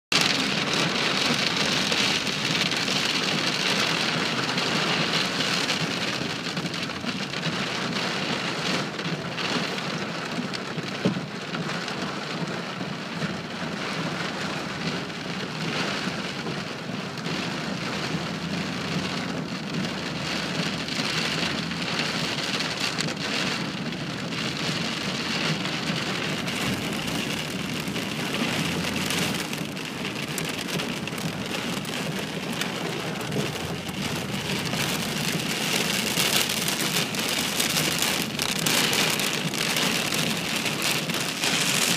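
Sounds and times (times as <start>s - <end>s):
heavy rain on car windshield: 0.1s - 41.9s.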